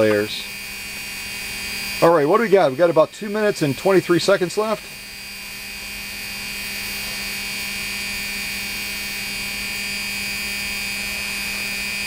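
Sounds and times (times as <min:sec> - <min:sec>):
sewing machine motor humming: 0:00.0 - 0:12.0.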